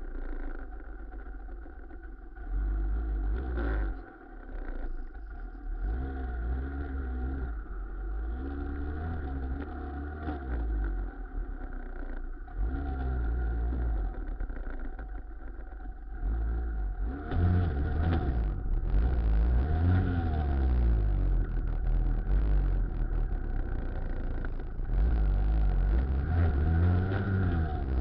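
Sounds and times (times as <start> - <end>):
two-stroke engine revving: 2.4 - 15.2, 16.1 - 28.0.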